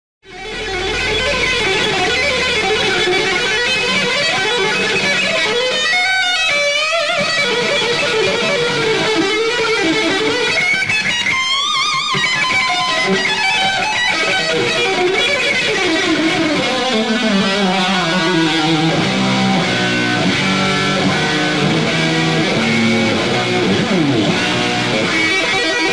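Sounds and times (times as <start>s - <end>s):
distorted electric guitar solo: 0.3s - 25.9s.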